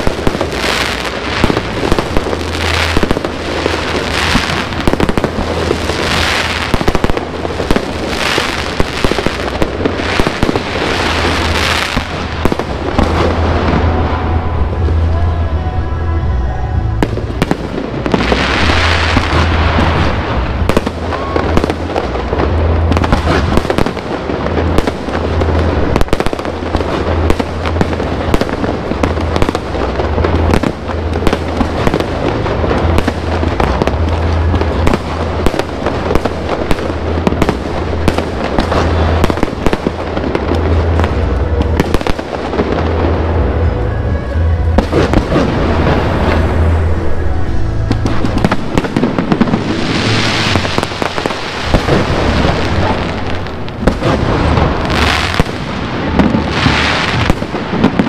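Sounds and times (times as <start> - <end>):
fireworks bangs and crackles: 0.0 - 15.5, 16.8 - 58.0.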